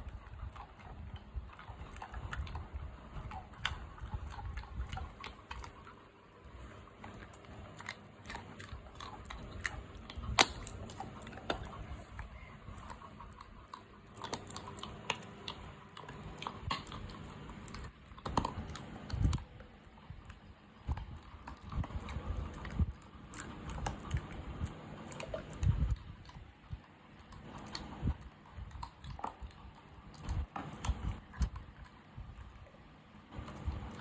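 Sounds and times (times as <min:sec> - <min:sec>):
animal chewing meat: 0:00.0 - 0:34.0.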